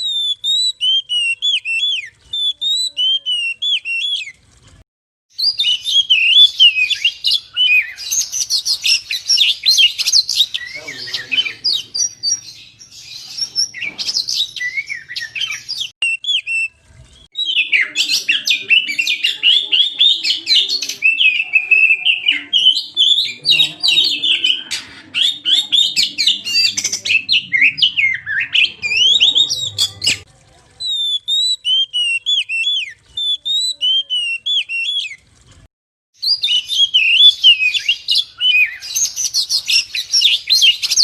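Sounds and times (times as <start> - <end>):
bird singing whistles and chirps: 0.0 - 4.4, 5.4 - 30.2, 30.8 - 35.2, 36.2 - 41.0.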